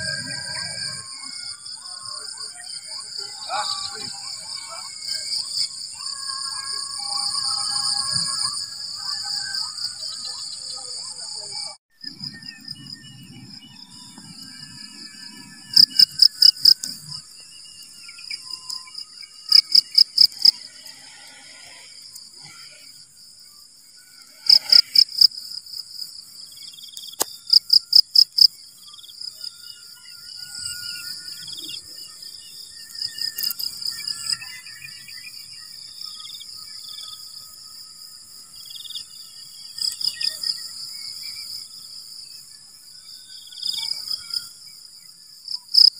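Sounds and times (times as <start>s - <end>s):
insects trilling: 0.0s - 45.9s.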